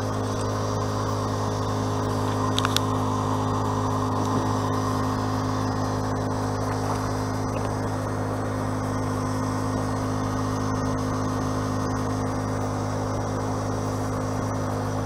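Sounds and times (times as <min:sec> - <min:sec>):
low buzzing hum: 0:00.0 - 0:15.0.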